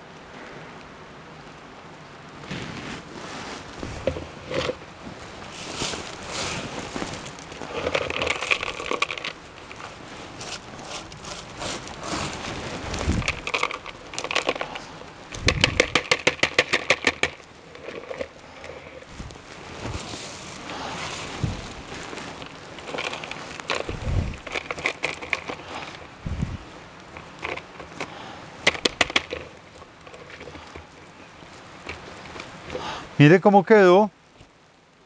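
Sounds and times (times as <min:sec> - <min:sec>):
potting substrate crackling and scraping: 0:01.4 - 0:35.0.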